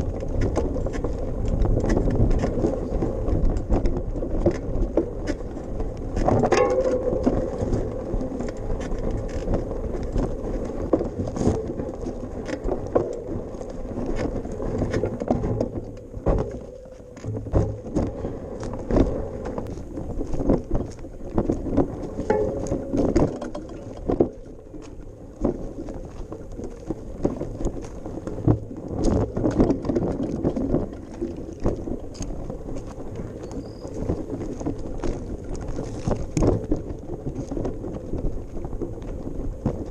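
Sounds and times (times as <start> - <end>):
bicycle rolling over bumpy path: 0.0 - 39.9
bike rattling and knocking: 0.0 - 39.9.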